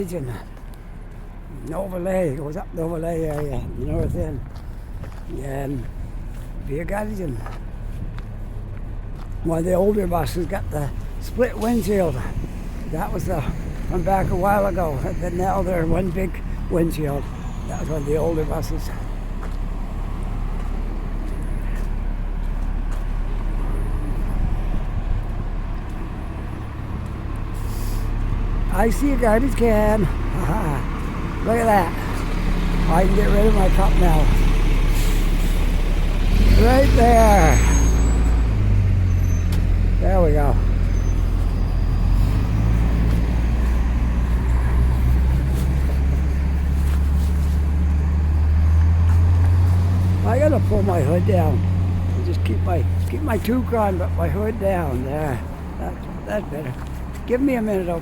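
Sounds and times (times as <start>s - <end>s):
low engine rumble: 0.0s - 58.0s
road noise: 0.0s - 58.0s
street traffic: 0.0s - 58.0s.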